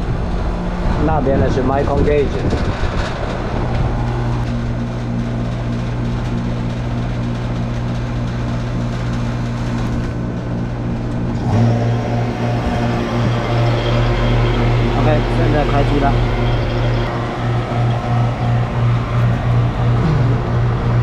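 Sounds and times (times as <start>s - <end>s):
vacuum pump humming: 2.1s - 21.0s.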